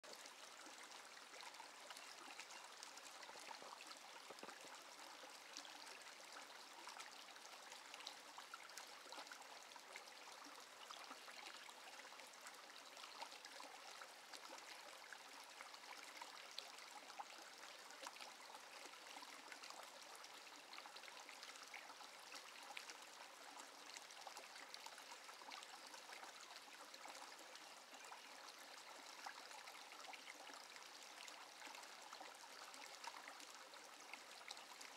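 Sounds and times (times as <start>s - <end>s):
brook trickling over rocks: 0.0s - 34.9s.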